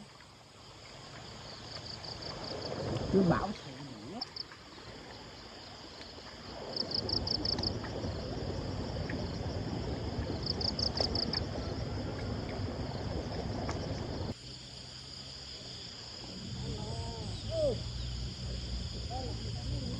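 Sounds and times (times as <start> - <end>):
high insect drone: 0.0 - 19.9
rapid insect or frog chirps: 0.0 - 19.9.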